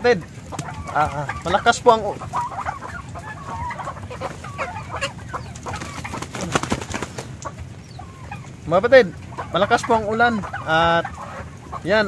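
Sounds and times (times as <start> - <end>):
poultry clucking and calling: 0.0 - 12.0.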